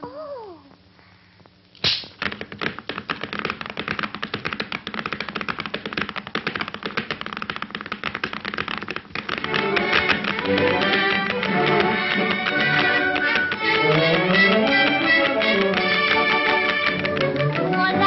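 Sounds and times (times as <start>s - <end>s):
fast clatter of taps: 2.2s - 18.0s.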